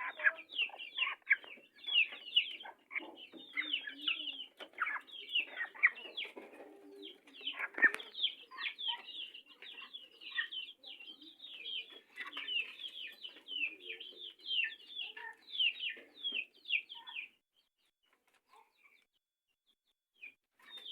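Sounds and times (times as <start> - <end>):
chickens clucking: 0.0 - 17.4, 20.6 - 20.9.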